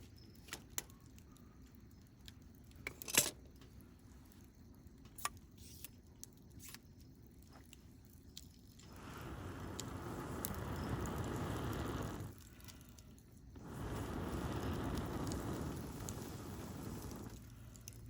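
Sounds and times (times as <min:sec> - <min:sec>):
campfire crackling and popping: 0:00.6 - 0:18.0.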